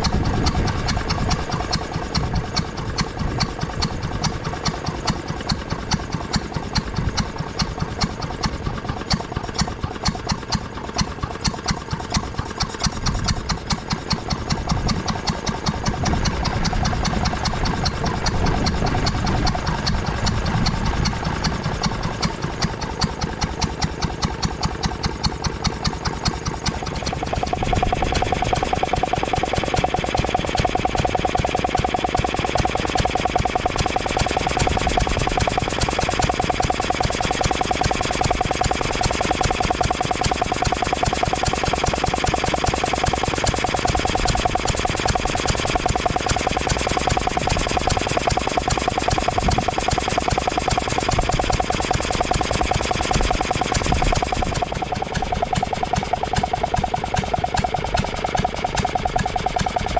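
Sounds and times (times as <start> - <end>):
air compressor engine running: 0.0 - 59.9.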